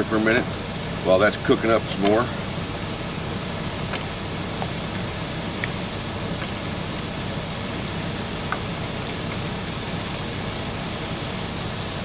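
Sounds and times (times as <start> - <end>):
running machinery hum and hiss: 0.0 - 12.0.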